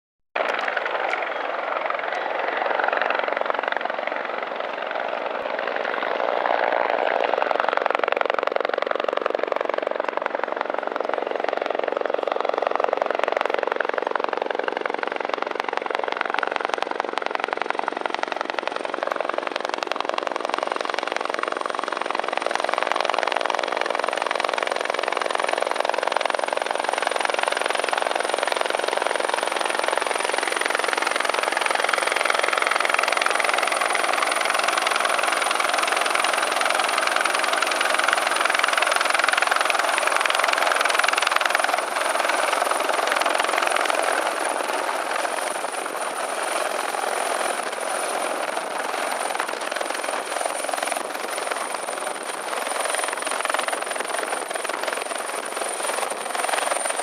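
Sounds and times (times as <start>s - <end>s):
helicopter rotor chop: 0.4s - 57.0s
high turbine whine: 0.4s - 57.0s.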